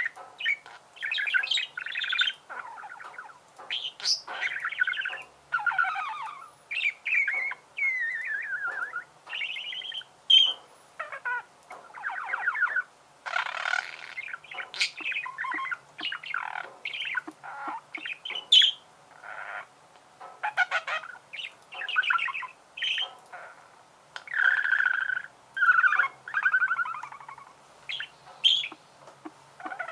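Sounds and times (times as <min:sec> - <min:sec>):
budgerigars warbling and chattering: 0:00.0 - 0:19.7, 0:20.4 - 0:23.6, 0:24.2 - 0:29.9.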